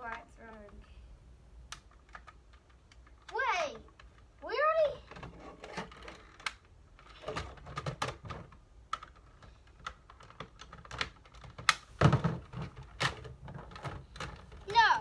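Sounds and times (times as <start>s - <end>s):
plastic clicks and rattles: 0.0s - 0.9s, 1.7s - 4.4s, 5.0s - 14.8s.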